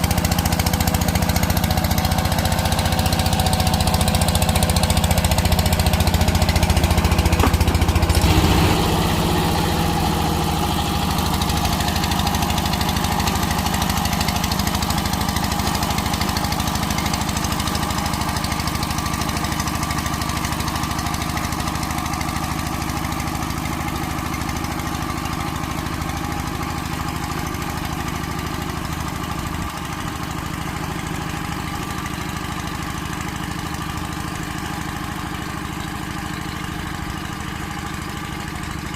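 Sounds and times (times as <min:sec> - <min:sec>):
tiller diesel engine chugging: 0:00.0 - 0:38.9.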